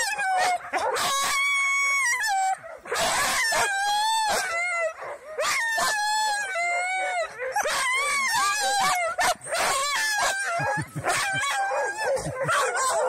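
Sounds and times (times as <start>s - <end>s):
sled dogs whining and howling: 0.0s - 13.0s.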